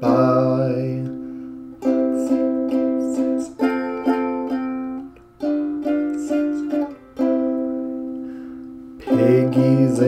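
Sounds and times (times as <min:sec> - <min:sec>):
plucked string instrument strumming: 0:00.0 - 0:10.0.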